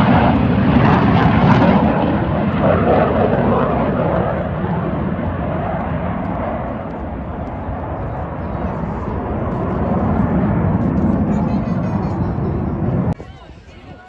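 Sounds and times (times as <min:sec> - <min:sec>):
aircraft engine roar: 0:00.0 - 0:14.0.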